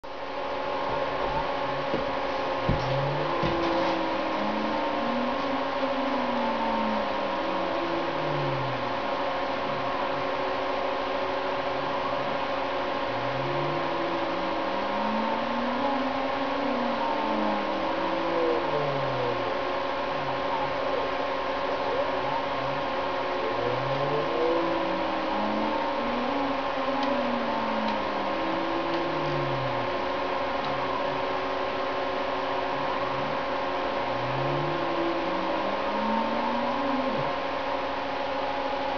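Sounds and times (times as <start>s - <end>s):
steady hum and hiss: 0.0s - 38.9s
stepper motors whining: 0.4s - 38.9s.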